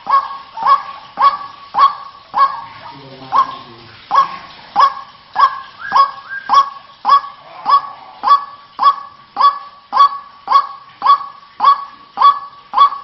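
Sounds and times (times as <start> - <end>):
waterhen honking calls: 0.0 - 13.0.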